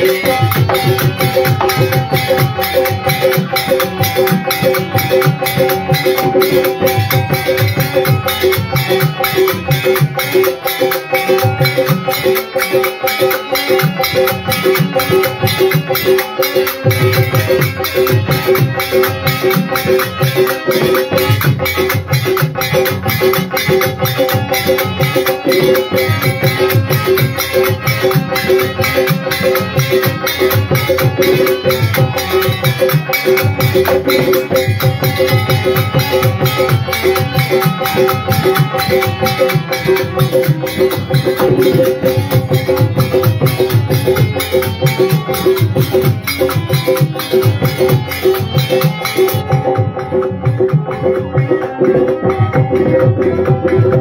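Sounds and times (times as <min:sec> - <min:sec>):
hand percussion beat: 0:00.0 - 0:54.0
harmonium sustained notes: 0:00.0 - 0:54.0.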